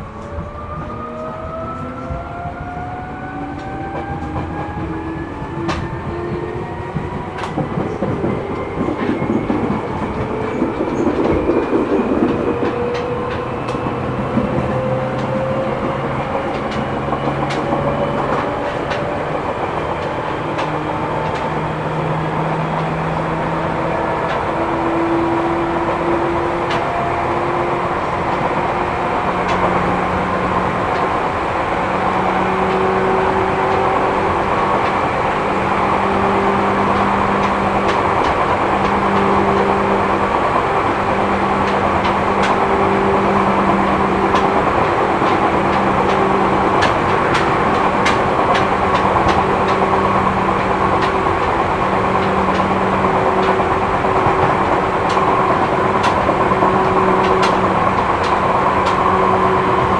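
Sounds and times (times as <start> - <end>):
train wheels rumbling on rail: 0.0 - 59.9
sharp clicks over rail: 0.1 - 59.9.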